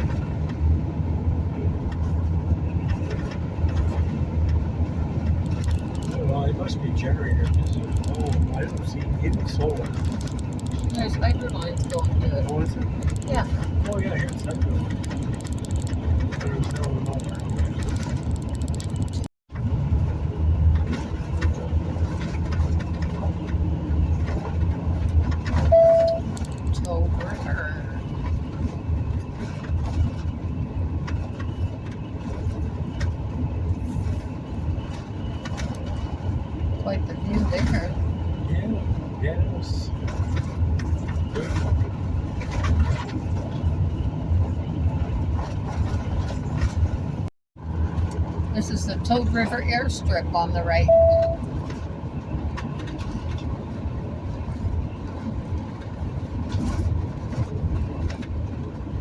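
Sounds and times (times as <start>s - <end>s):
vehicle engine and tyre rumble: 0.0s - 59.0s.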